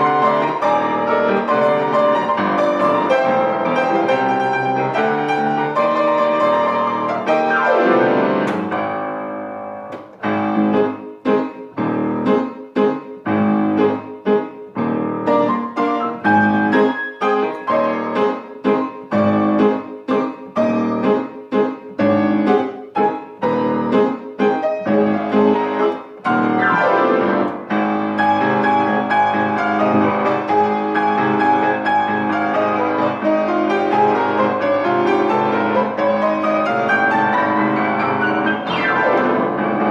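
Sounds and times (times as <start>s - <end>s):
solo piano chords: 0.0s - 39.9s.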